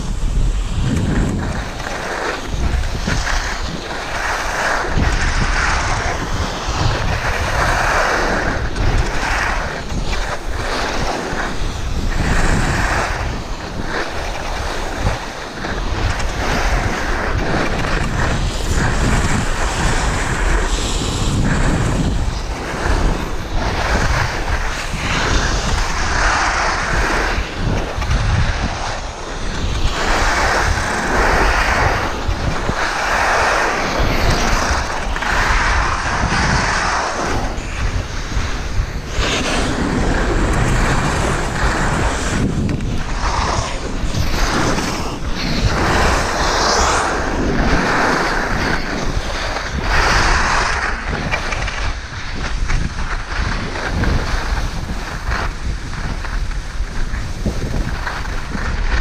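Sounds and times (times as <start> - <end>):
skis scraping over snow: 0.0 - 59.0
wind rumbling on microphone: 0.0 - 59.0.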